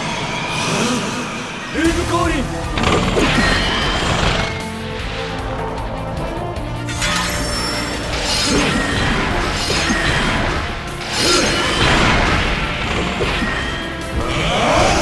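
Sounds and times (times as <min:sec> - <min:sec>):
background music: 0:00.0 - 0:15.0
energy blasts and explosions: 0:00.0 - 0:15.0.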